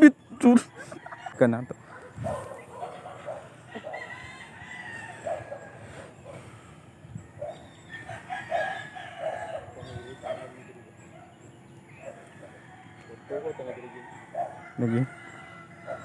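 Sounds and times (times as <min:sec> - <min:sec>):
chickens clucking: 0:00.0 - 0:16.0
rooster crowing: 0:00.6 - 0:06.6, 0:07.2 - 0:10.6, 0:12.0 - 0:16.0.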